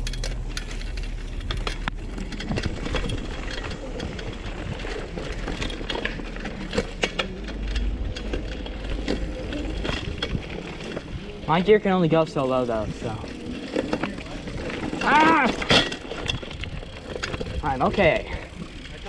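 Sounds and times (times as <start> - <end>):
bicycle clicks and rattles: 0.0 - 19.0
low rumble: 0.0 - 19.0.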